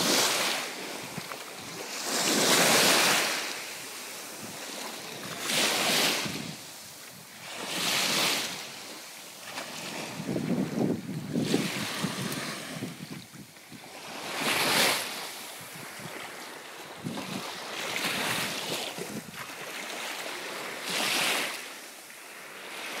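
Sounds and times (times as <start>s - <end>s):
small waves washing on sand: 0.0s - 23.0s.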